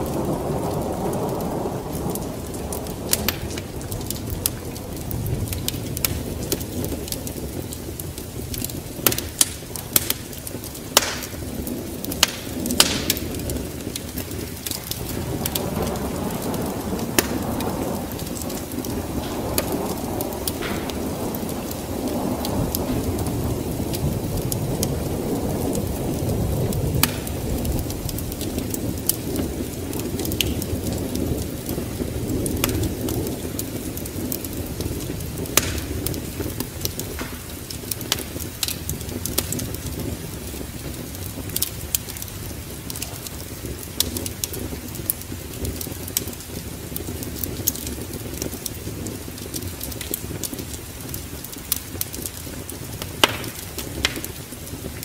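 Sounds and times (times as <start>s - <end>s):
steady rain: 0.0s - 55.0s
thunder rumble: 0.0s - 55.0s
wood fire crackling and popping: 0.0s - 55.0s.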